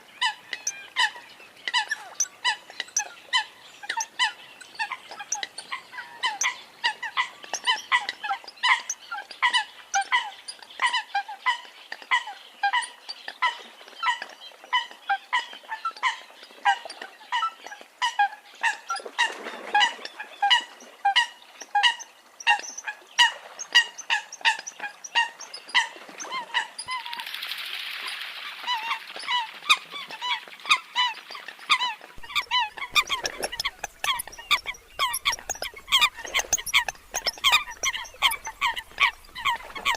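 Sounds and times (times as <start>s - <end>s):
coots calling: 0.0s - 27.2s, 28.6s - 39.9s.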